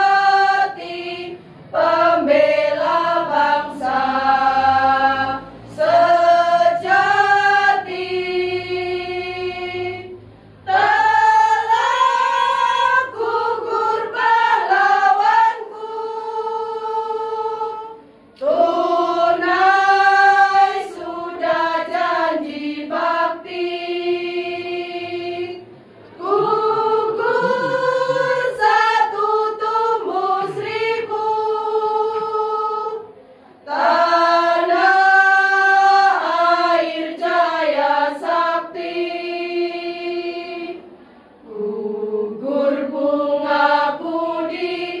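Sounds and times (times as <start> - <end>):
women's choir singing: 0.0 - 45.0.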